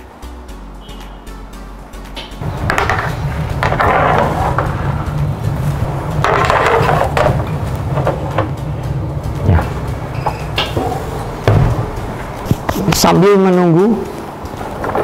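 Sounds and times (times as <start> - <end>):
low hum: 0.0 - 12.8.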